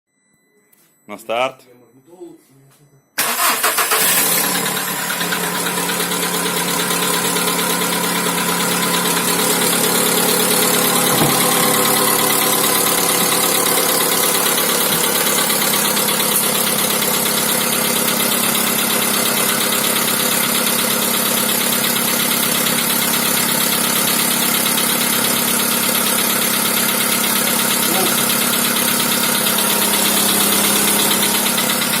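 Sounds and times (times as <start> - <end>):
car engine idling with knock: 4.4 - 32.0.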